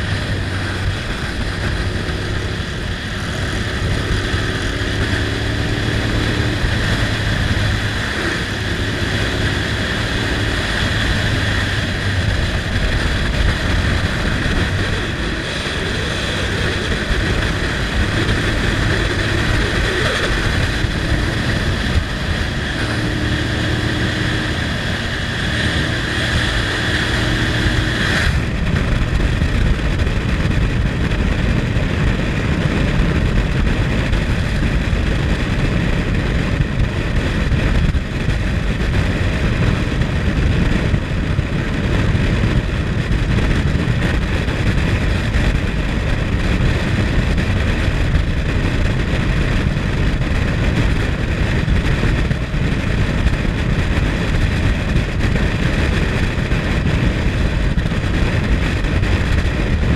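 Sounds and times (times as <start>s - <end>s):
motorcycle engine running: 0.0s - 59.9s
wind rushing across microphone: 0.0s - 59.9s.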